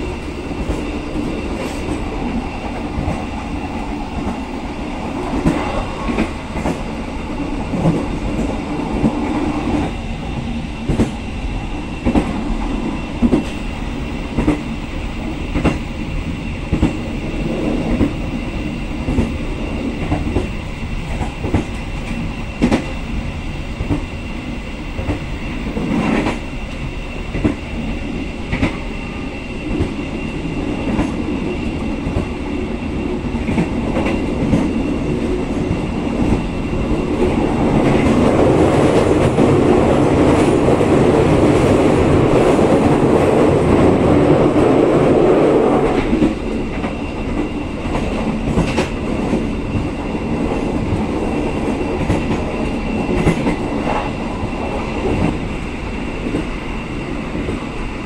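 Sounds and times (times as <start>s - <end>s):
train wheels clacking: 0.0s - 23.1s, 24.9s - 58.0s
train rumble: 0.0s - 58.0s.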